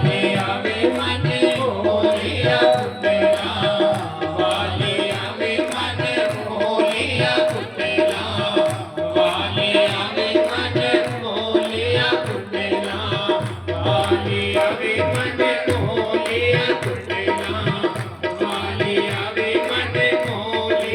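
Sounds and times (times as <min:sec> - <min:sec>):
hand drum rhythm: 0:00.0 - 0:20.9.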